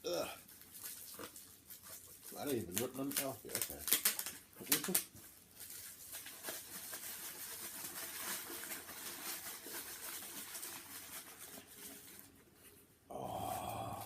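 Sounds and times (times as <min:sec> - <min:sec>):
packaging rustling and crinkling: 0:00.4 - 0:12.7.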